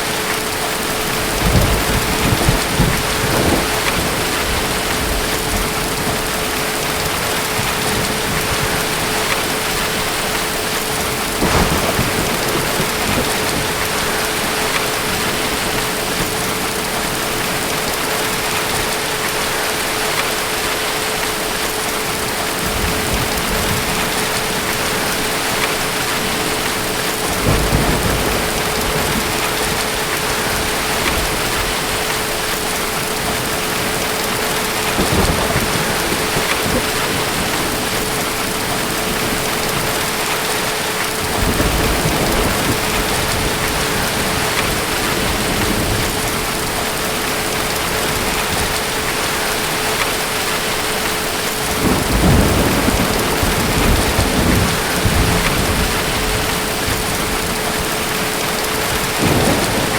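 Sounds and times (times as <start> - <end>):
distant thunder rumbling: 0.0 - 20.5, 21.4 - 59.9
heavy rain: 0.0 - 59.9.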